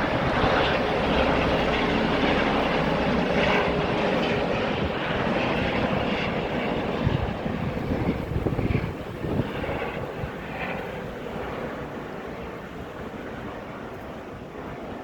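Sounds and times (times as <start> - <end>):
wind buffeting microphone: 0.0 - 14.8
helicopter rotor and engine: 0.0 - 15.0.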